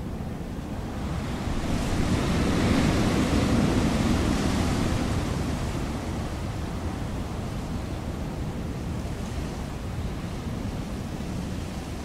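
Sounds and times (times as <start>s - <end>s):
wind blowing: 0.0s - 12.0s.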